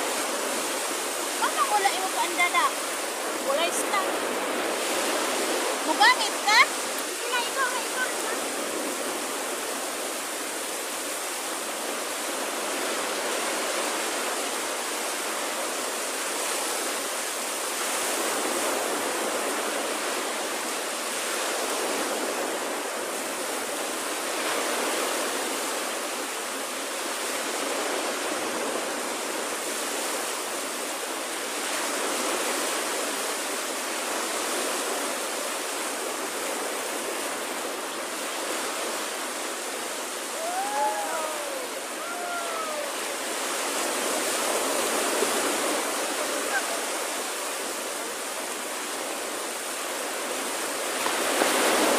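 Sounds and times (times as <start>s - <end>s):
small waves breaking on beach: 0.0s - 51.9s.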